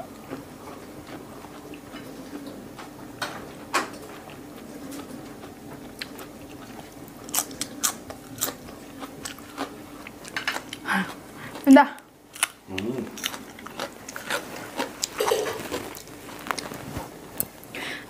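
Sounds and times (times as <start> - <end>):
person chewing crunchy onion: 0.0 - 3.1, 4.1 - 17.7.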